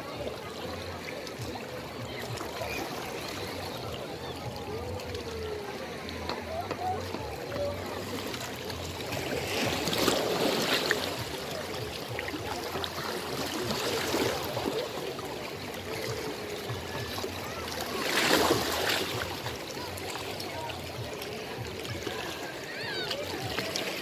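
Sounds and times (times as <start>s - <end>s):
waves lapping over rocks: 0.0s - 24.0s.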